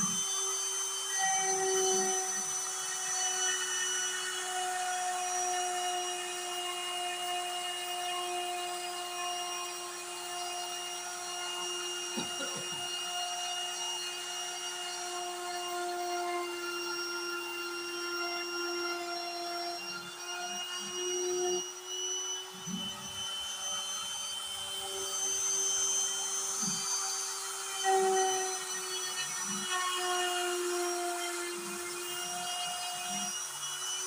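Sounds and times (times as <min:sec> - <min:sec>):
router spindle high whine: 0:00.0 - 0:34.0.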